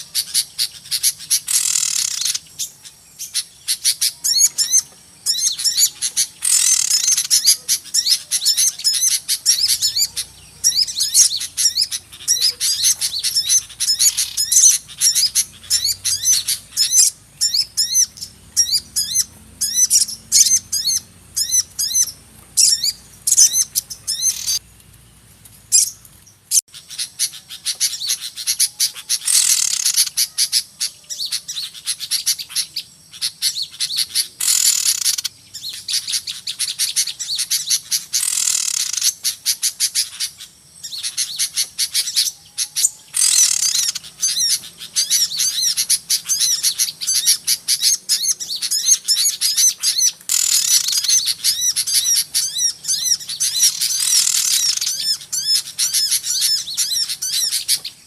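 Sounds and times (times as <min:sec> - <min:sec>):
songbirds chorus chirping: 0:00.0 - 0:58.0.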